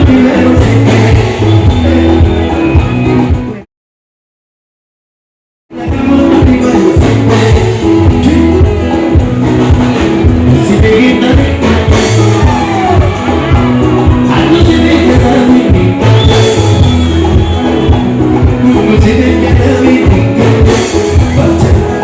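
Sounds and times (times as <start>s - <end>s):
person singing: 0.0s - 3.6s, 5.7s - 22.0s
live band music through a pa: 0.0s - 3.7s, 5.7s - 22.0s.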